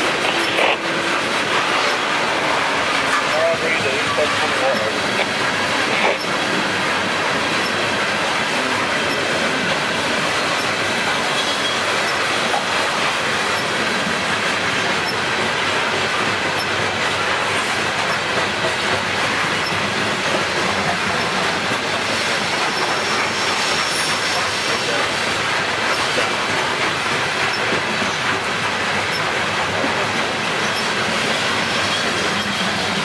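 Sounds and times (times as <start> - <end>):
train wheels rolling on rails: 0.0 - 33.0.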